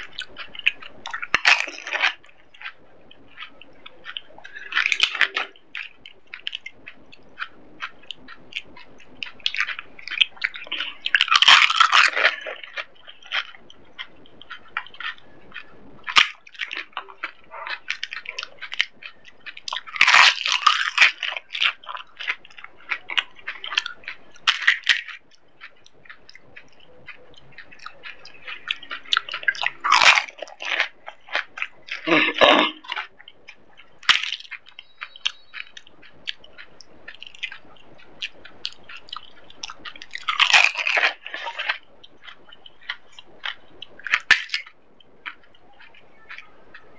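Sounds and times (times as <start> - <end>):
crisp shells cracking: 0.0 - 46.9
loud crunching: 0.0 - 46.9
wet chewing: 0.0 - 46.9.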